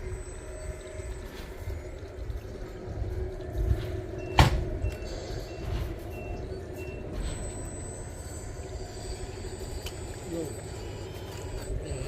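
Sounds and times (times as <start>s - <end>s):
model excavator motor humming: 0.0s - 12.0s.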